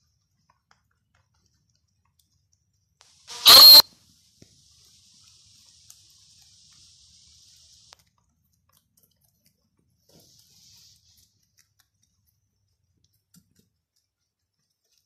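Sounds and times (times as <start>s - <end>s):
rabbits chewing greens: 0.0s - 3.2s, 4.0s - 15.0s.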